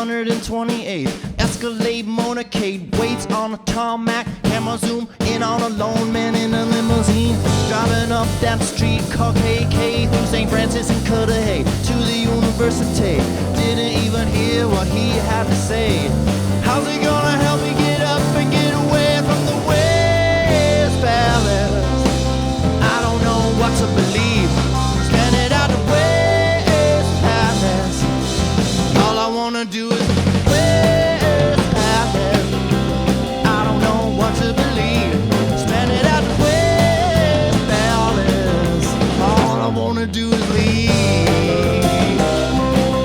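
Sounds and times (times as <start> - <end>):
rock band playing: 2.6 - 43.0.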